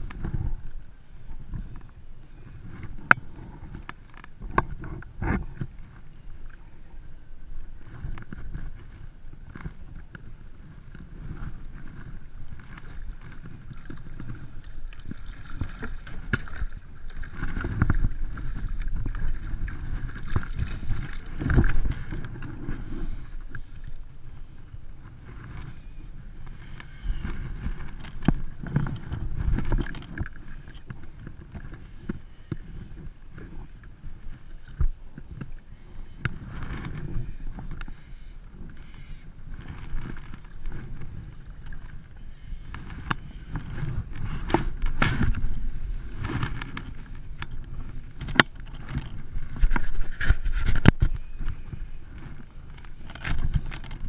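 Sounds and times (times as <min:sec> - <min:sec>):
water lapping against kayak hull: 0:00.0 - 0:54.0
wind gusting on microphone: 0:00.0 - 0:54.0.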